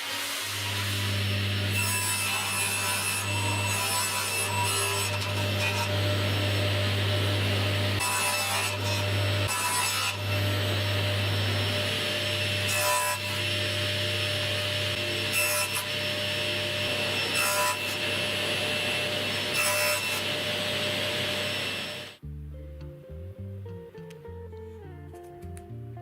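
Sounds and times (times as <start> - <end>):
power tool cutting wood: 0.0 - 22.2.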